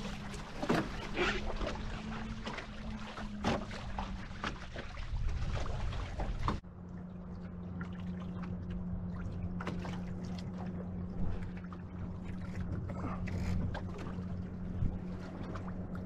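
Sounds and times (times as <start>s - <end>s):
water splashing against hulls: 0.0s - 16.0s.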